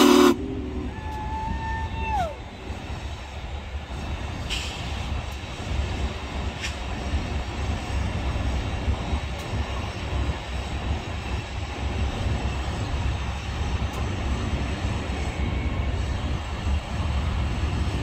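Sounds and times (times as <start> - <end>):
steam locomotive rumble and hiss: 0.0 - 18.0
wind buffeting microphone: 0.2 - 18.0.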